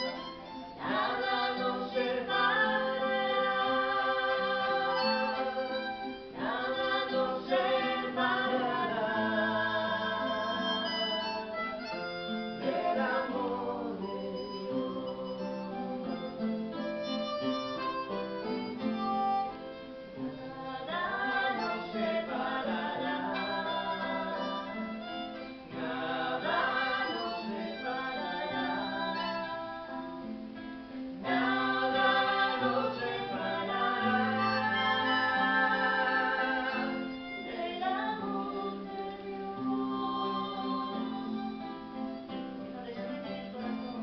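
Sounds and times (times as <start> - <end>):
melodic song with guitar: 0.0 - 44.0.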